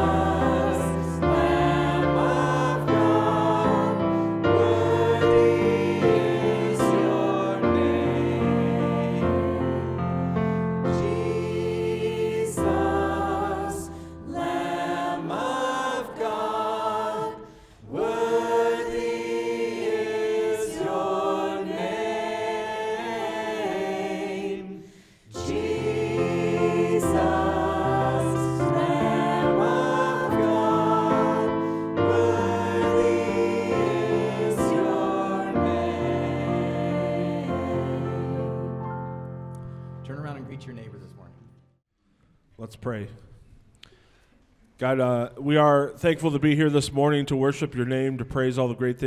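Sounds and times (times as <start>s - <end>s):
group singing worship song: 0.0s - 39.8s.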